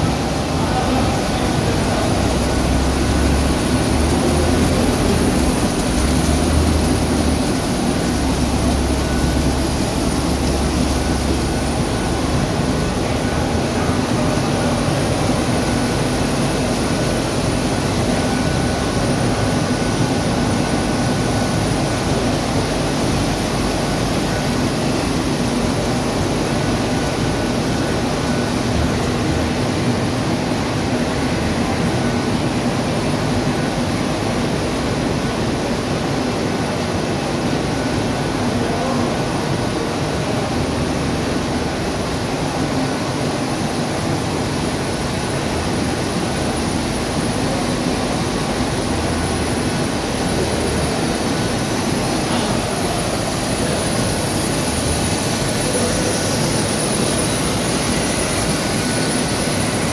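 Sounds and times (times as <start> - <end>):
faint steady whine: 0.0 - 59.9
industrial machinery hum: 0.0 - 59.9.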